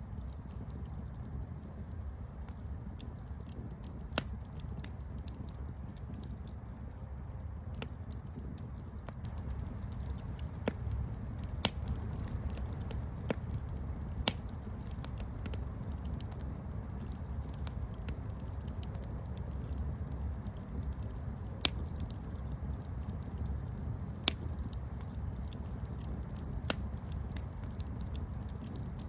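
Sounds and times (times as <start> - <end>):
campfire rumbling: 0.0 - 29.0
fire crackles and pops: 0.0 - 29.0.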